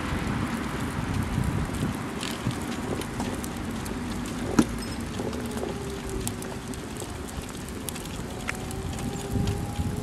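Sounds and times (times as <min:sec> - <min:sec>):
small wheels rolling on paving: 0:00.0 - 0:10.0.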